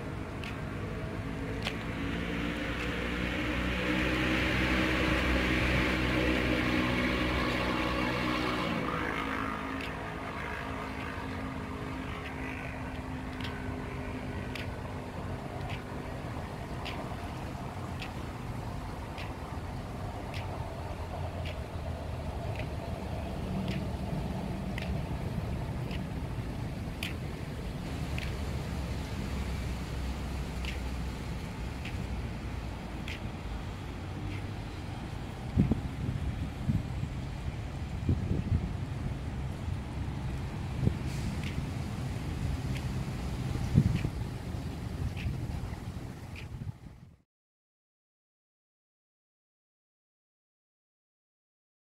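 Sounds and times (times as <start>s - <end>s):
footsteps on brick path: 0.0s - 3.4s, 7.2s - 46.8s
distant road traffic: 0.0s - 47.2s
wind on microphone: 0.0s - 47.2s.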